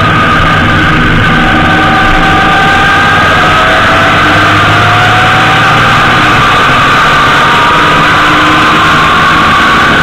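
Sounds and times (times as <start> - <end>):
high whistling tones: 0.0 - 10.0
motorcycle engine running: 0.0 - 10.0
wind noise: 0.0 - 10.0.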